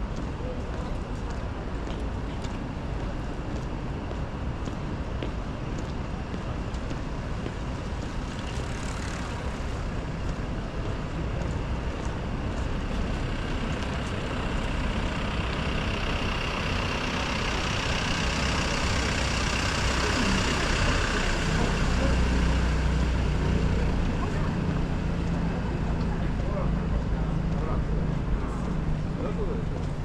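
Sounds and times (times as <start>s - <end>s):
city street traffic: 0.0s - 30.0s
heavy vehicle engine rumbling: 0.0s - 30.0s.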